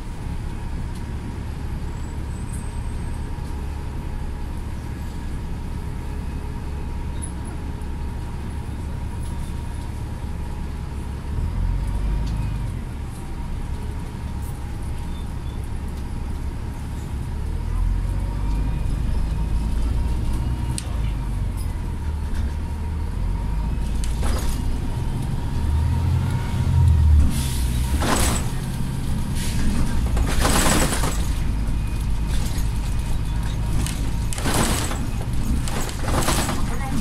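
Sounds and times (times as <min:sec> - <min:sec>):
bus engine rumble: 0:00.0 - 0:37.0.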